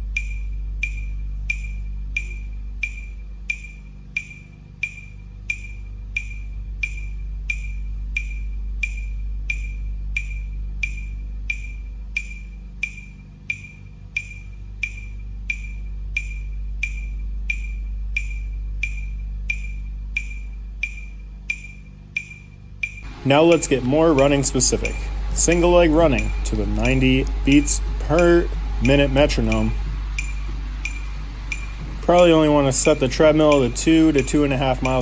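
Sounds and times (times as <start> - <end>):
low steady hum: 0.0 - 35.0
metronome clicking: 0.0 - 35.0.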